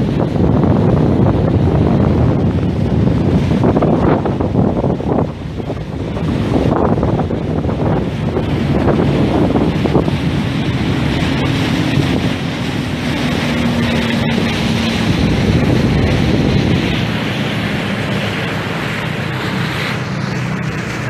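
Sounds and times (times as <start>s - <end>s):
motorboat engine running: 0.0s - 21.0s
water rushing past hull: 0.0s - 21.0s
wind noise on microphone: 0.0s - 21.0s.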